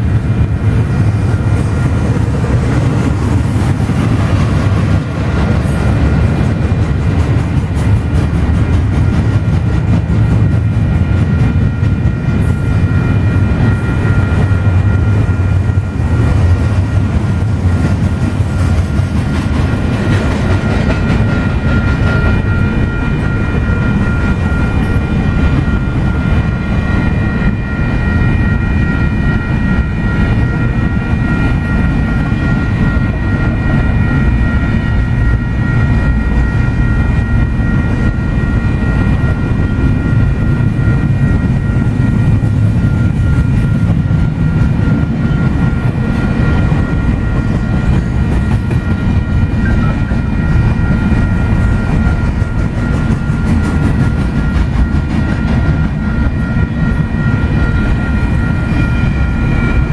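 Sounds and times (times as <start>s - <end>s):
crossing bell ringing tones: 0.0s - 59.9s
freight train wheels clattering: 0.0s - 59.9s.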